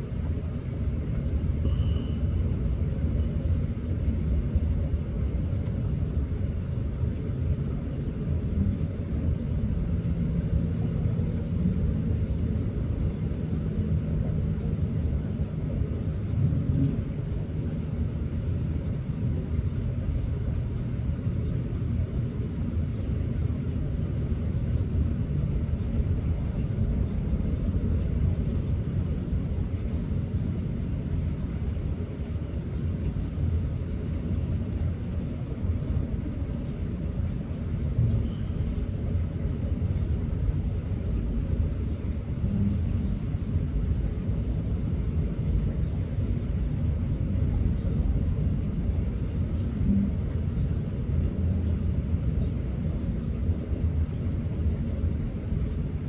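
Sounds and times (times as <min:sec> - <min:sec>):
distant engine rumble: 0:00.0 - 0:56.0
faint hum: 0:00.0 - 0:56.0.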